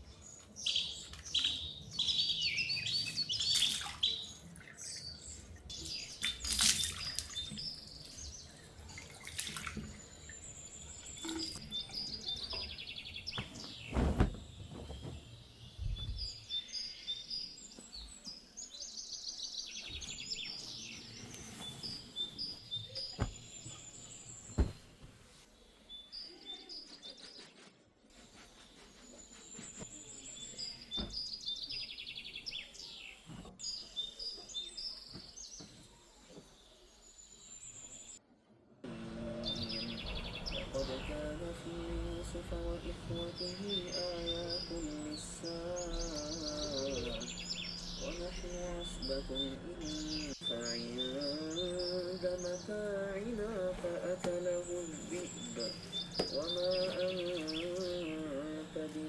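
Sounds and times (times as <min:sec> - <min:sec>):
small birds chirping and trilling: 0:00.0 - 0:27.6, 0:28.4 - 0:38.2, 0:39.3 - 0:59.0.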